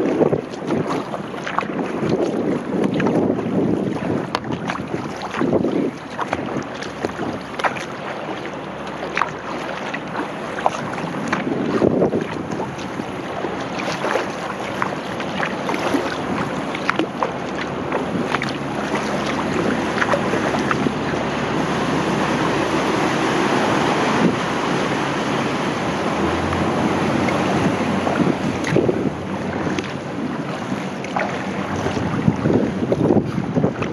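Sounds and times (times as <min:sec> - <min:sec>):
kayak paddle splashing: 0:00.0 - 0:33.9
rushing water: 0:00.0 - 0:33.9
wind buffeting microphone: 0:00.0 - 0:33.9.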